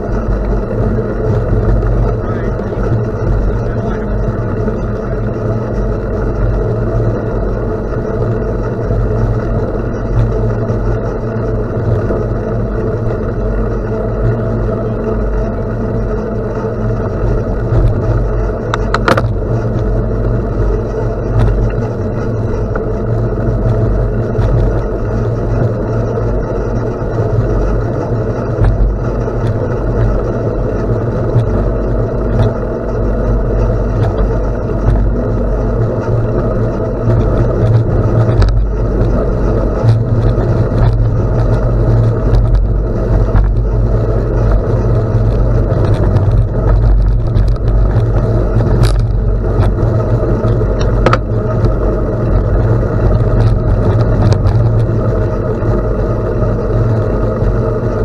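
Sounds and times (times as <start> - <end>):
bicycle tyres rolling on gravel: 0.0 - 58.0
wind rush over microphone: 0.0 - 58.0.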